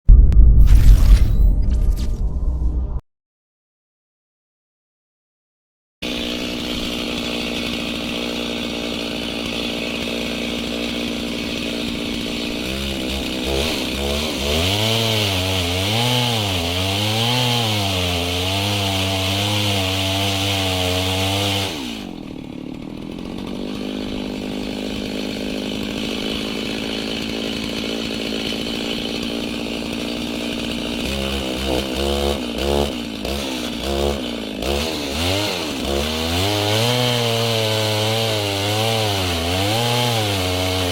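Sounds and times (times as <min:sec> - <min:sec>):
chainsaw cutting a log: 0:06.0 - 0:40.9.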